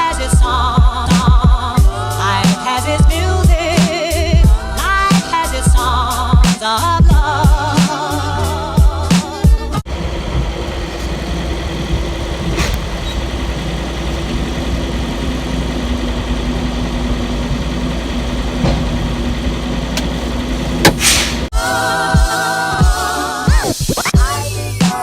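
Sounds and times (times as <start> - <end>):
truck diesel engine running: 0.0 - 21.5.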